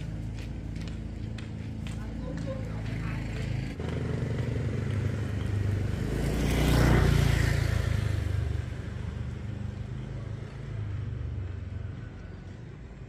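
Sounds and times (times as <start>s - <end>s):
low engine hum: 0.0s - 13.0s
vehicle passing close by: 0.0s - 13.0s.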